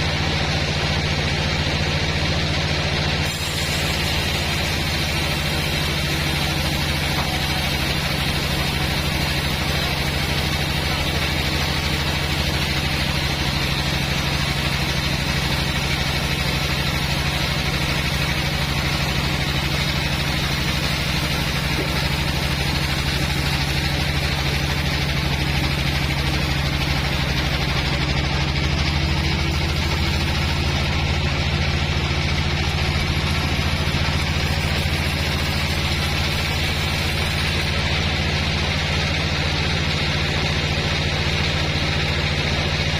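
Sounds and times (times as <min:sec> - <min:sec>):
bandsaw machine engine running: 0:00.0 - 0:42.9.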